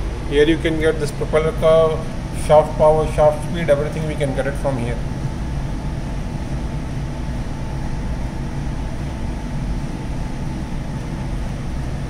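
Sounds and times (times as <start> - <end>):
engine room machinery drone: 0.0 - 12.0.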